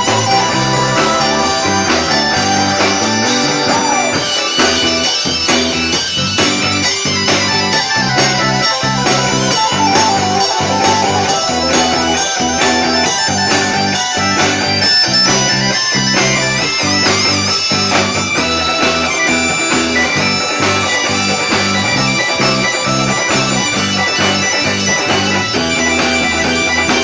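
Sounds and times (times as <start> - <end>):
amplified electric guitar: 0.0 - 27.0
drum kit steady beat: 0.0 - 27.0.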